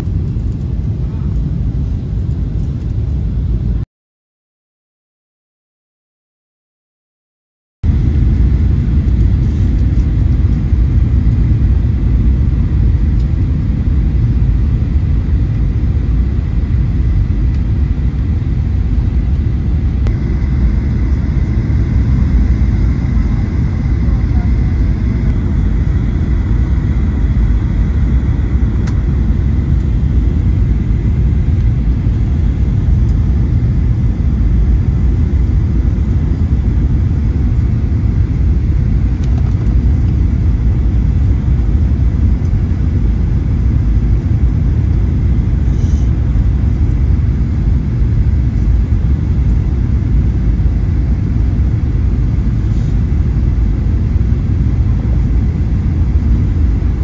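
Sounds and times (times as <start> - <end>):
airliner cabin rumble: 0.0 - 3.8, 7.8 - 57.0.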